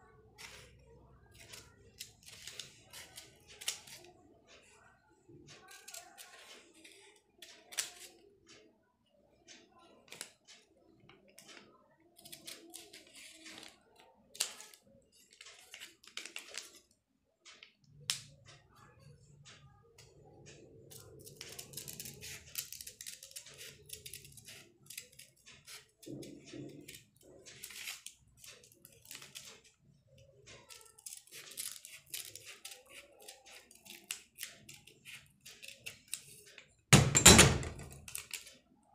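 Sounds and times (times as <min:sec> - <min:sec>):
scissors snipping paper: 0:00.2 - 0:04.7, 0:05.5 - 0:08.7, 0:10.0 - 0:18.3, 0:20.6 - 0:37.1, 0:37.8 - 0:38.6.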